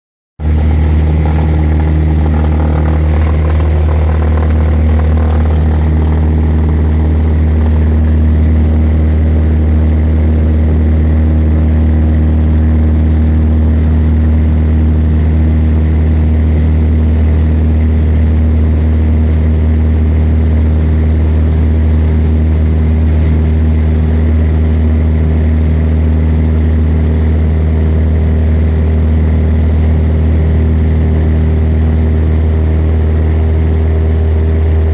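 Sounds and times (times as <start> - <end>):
propeller plane engine droning: 0.4 - 34.9.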